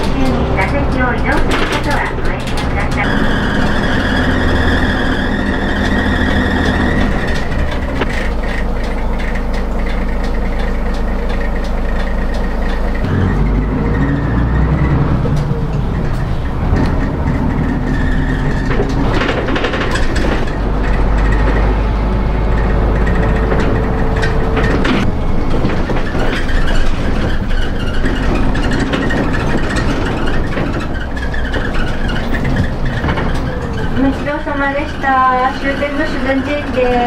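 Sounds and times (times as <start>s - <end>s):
bus engine and road rumble: 0.0s - 37.0s
rattles and knocks: 0.0s - 37.0s.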